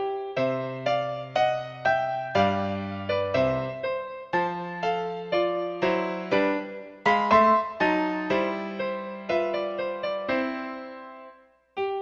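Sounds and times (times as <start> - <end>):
electric piano chords: 0.0 - 12.0.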